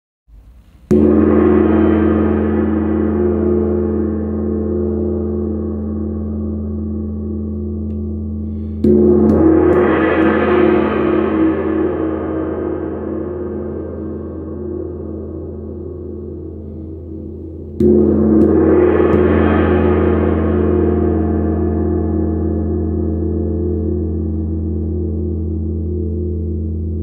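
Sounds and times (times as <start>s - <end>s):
wind gong ringing: 0.9s - 25.5s.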